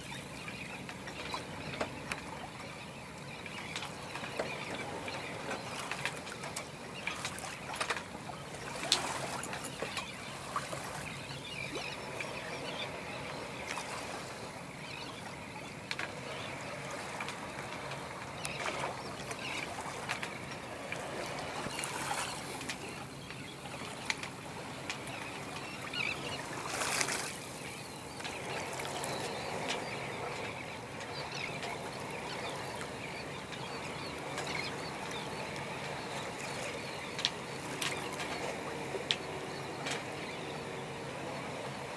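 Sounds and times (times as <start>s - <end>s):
water washing along boat hull: 0.0s - 41.9s.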